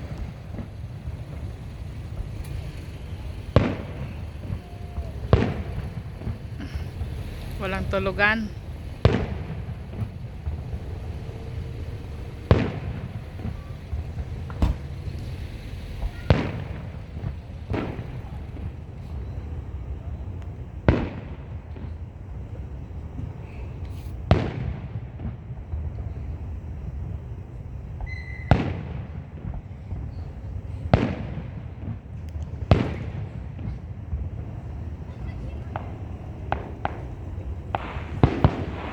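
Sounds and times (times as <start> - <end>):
fireworks bursting with bangs: 0.0 - 38.9
steady low rumble: 0.0 - 38.9.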